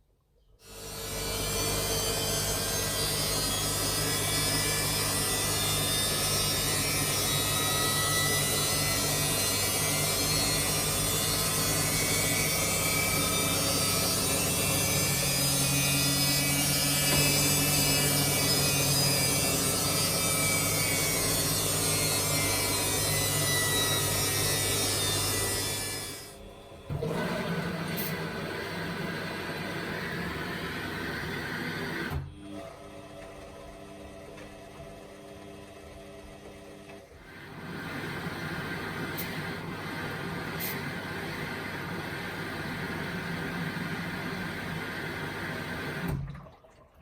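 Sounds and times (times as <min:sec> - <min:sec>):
washing machine humming: 0:00.8 - 0:47.0.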